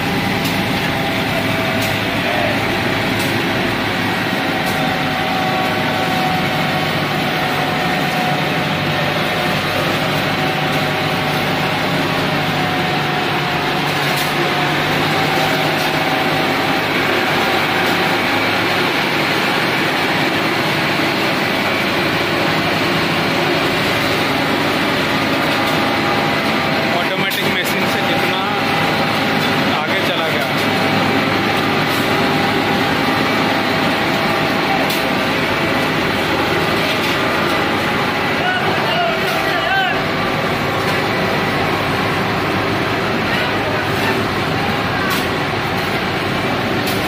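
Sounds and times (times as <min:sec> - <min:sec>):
diesel engine running under load: 0:00.0 - 0:47.0.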